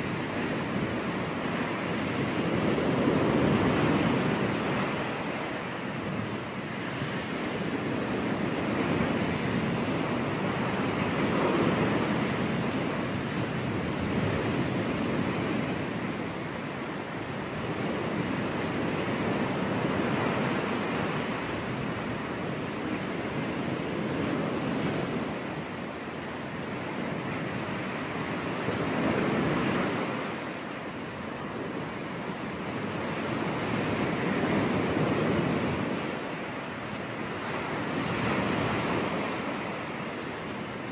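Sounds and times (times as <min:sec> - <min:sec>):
waves breaking on beach: 0:00.0 - 0:40.9.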